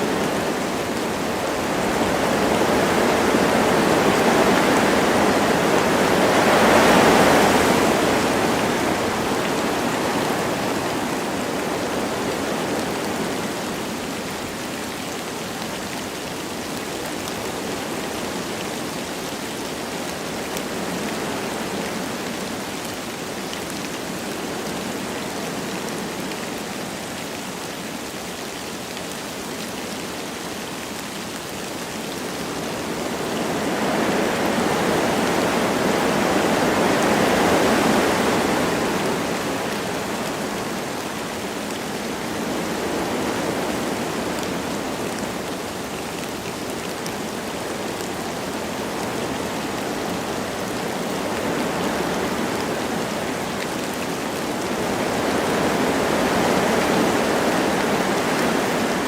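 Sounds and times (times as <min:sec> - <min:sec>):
light rain: 0:00.0 - 0:59.0
wind through trees: 0:00.0 - 0:59.0.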